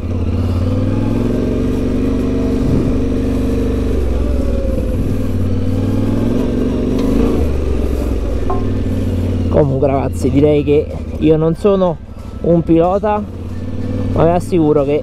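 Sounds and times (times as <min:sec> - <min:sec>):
motorcycle engine running at low revs: 0:00.0 - 0:15.0.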